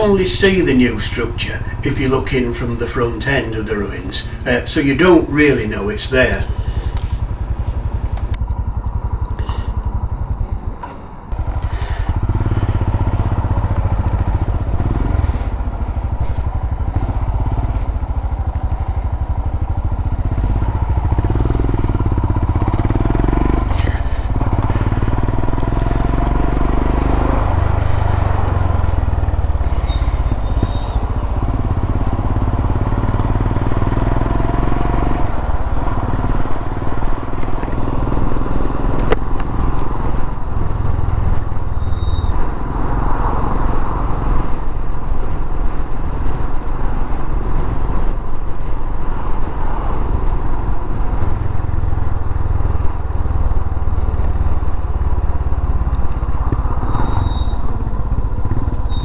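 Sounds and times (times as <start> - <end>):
motorcycle engine running: 6.3 - 47.9, 49.4 - 59.0.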